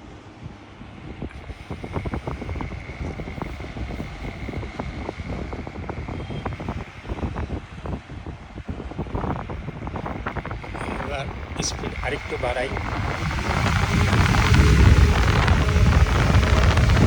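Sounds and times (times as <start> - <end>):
faint steady whine: 0.0 - 17.0
fan wind buffeting microphone: 0.0 - 17.0.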